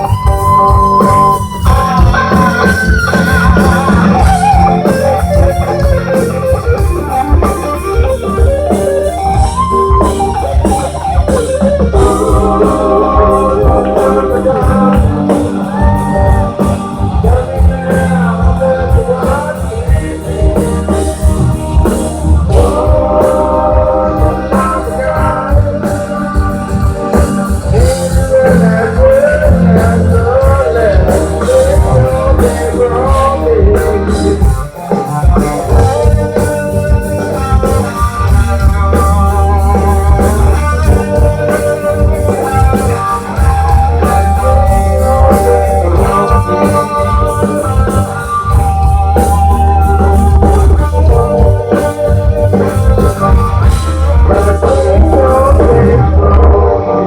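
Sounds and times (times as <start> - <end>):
person singing: 0.0 - 57.0
rock band playing: 0.0 - 57.0.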